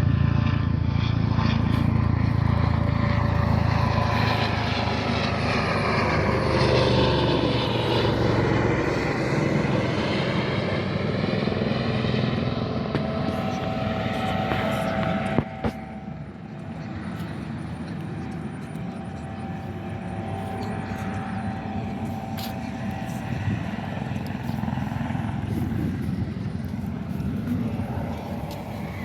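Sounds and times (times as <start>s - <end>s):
large aircraft flying past: 0.0s - 29.0s.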